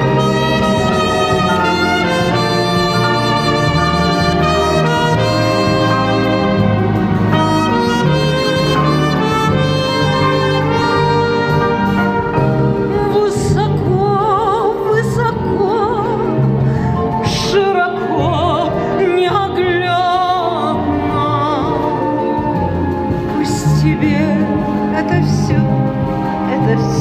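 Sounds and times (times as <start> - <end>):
melody with wide vibrato: 0.0 - 27.0
orchestral pop music: 0.0 - 27.0.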